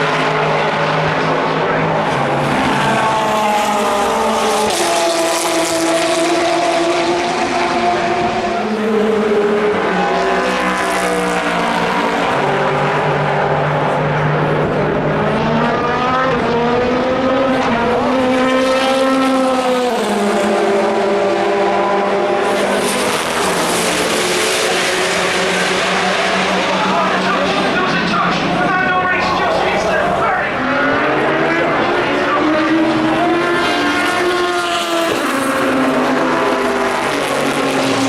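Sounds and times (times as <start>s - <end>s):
race car engines passing by: 0.0s - 38.0s.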